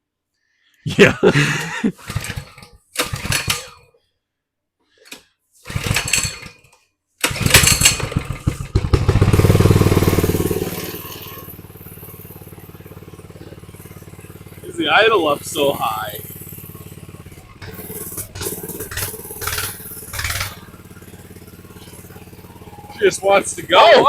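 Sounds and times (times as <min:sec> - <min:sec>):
minibike engine starting and idling: 0:00.9 - 0:03.9, 0:05.6 - 0:24.0.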